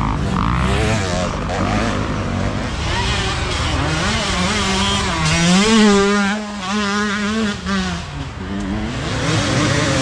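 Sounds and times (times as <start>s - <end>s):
dirt bike engine buzzing: 0.0s - 10.0s.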